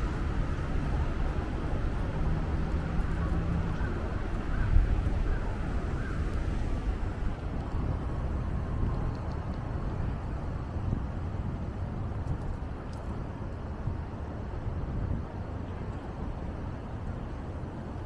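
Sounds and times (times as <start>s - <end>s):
rumble of passing cars: 0.0s - 18.0s.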